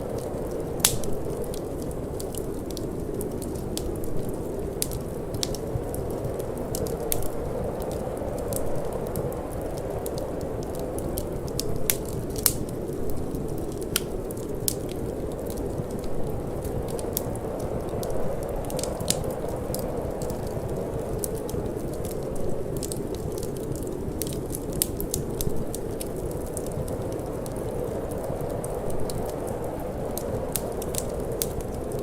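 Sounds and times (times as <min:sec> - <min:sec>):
low wind: 0:00.0 - 0:32.0
wood fire crackling and popping: 0:00.0 - 0:32.0.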